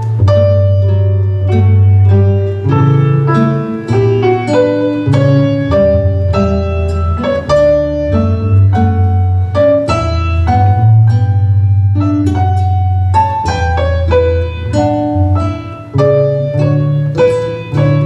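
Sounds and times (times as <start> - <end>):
keyboard playing a run of notes: 0.0 - 18.0
sustained bass line: 0.0 - 18.0.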